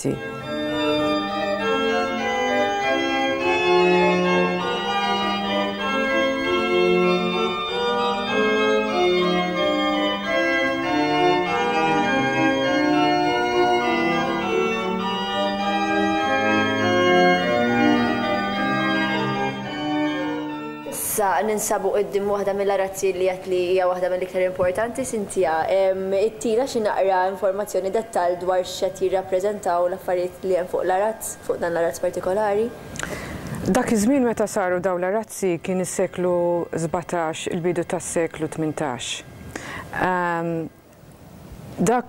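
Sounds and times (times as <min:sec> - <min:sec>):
organ music: 0:00.0 - 0:39.6.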